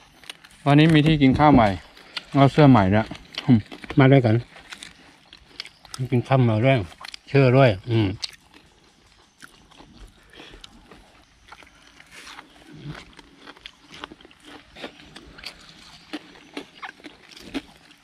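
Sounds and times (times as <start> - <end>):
chewing: 0.0 - 18.0
small food crunches: 0.0 - 18.0.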